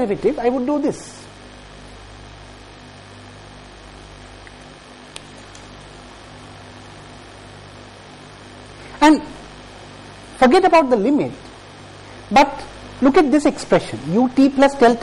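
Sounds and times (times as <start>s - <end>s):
electrical mains hum and hiss: 0.0s - 15.0s.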